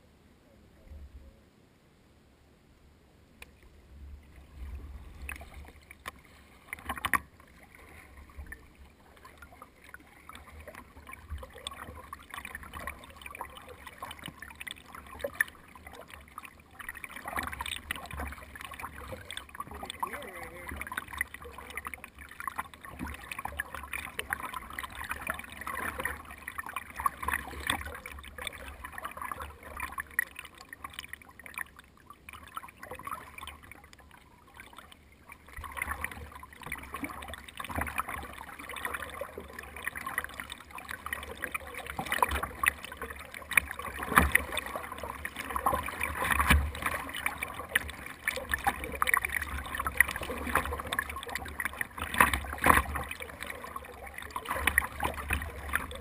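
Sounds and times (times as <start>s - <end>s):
water splashing against boat hull: 4.2s - 56.0s.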